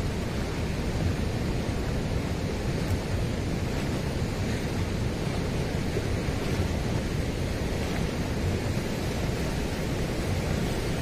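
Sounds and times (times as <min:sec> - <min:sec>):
fast-flowing river rushing: 0:00.0 - 0:11.0
wind buffeting microphone: 0:00.0 - 0:11.0.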